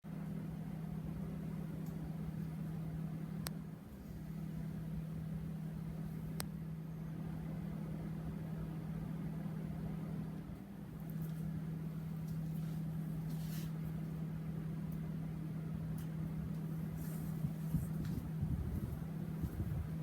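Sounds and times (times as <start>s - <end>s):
box fan motor hum: 0.1s - 20.0s.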